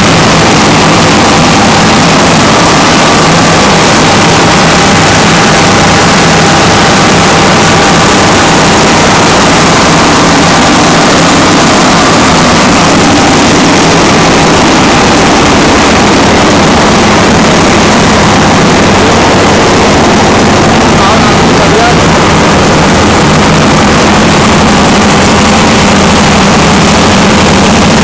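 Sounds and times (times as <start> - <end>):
diesel generator running: 0.0 - 28.0.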